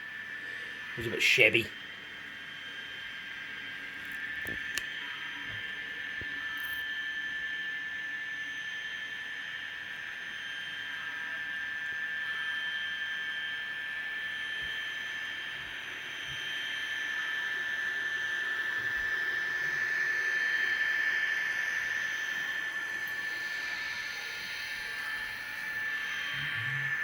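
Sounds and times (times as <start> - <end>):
model train motor whine: 4.0 - 27.0.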